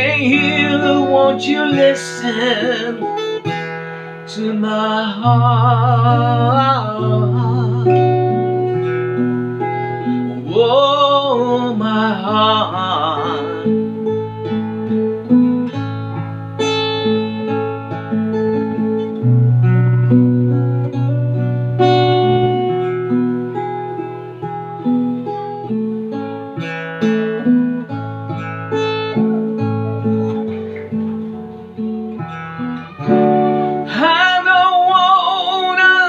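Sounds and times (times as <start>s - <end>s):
acoustic guitar chords: 0.0s - 36.0s.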